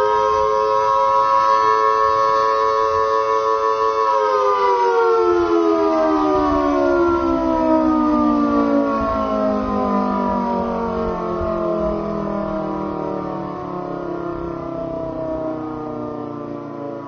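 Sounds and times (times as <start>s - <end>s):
air-raid siren winding down: 0.0s - 17.0s.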